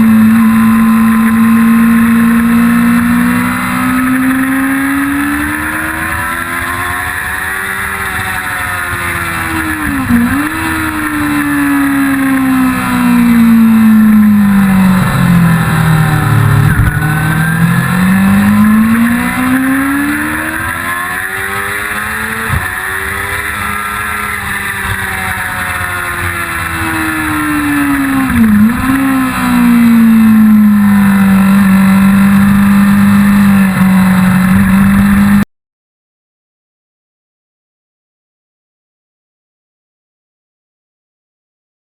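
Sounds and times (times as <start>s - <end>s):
gear changes: 0.0s - 35.4s
motorcycle engine at speed: 0.0s - 35.5s.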